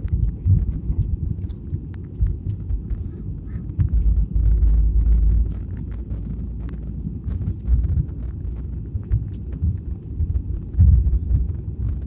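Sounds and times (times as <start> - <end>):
airliner cabin rumble: 0.0 - 12.0
light clicks and rattles: 0.0 - 12.0.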